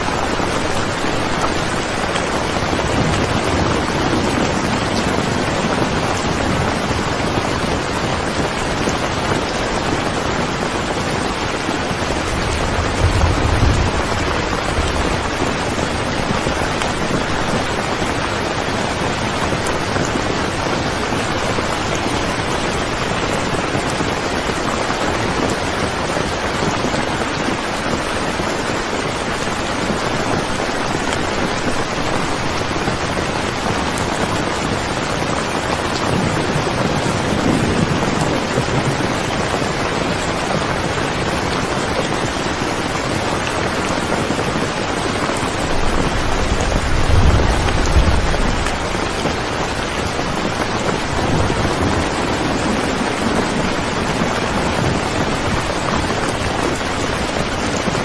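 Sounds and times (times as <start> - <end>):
thunder rumbling: 0.0 - 26.8, 29.2 - 58.0
heavy rain hissing: 0.0 - 58.0.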